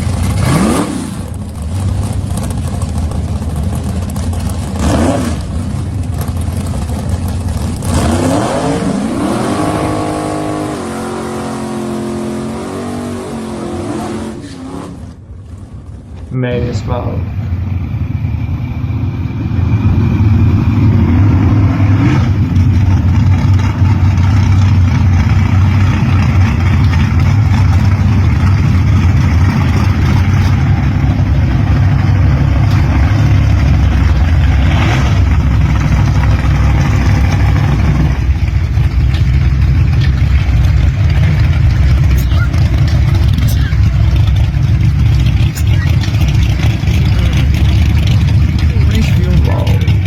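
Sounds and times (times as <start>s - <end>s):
drag car engines rumbling: 0.0s - 50.0s.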